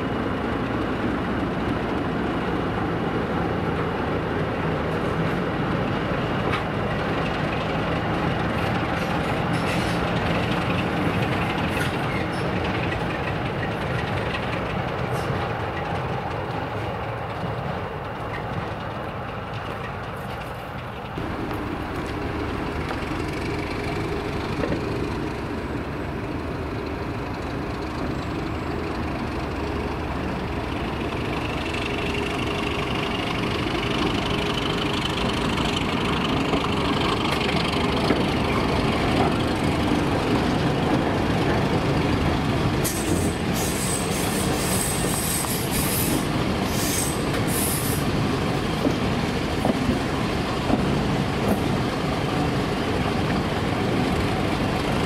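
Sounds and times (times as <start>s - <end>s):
diesel train running: 0.0s - 55.0s.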